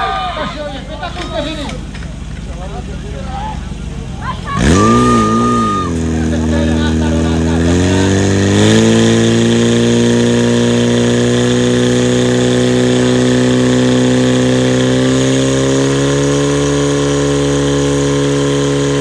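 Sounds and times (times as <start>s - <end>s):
fire pump engine running: 0.0s - 19.0s.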